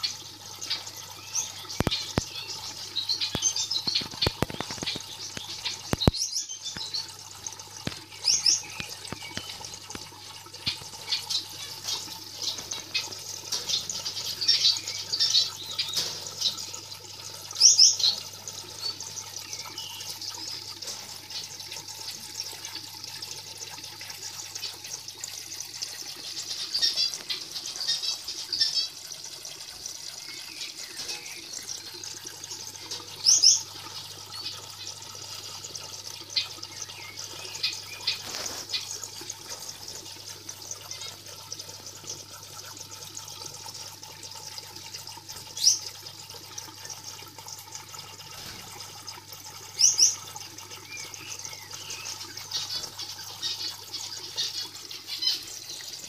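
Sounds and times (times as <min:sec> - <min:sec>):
aquarium water trickling: 0:00.0 - 0:56.0.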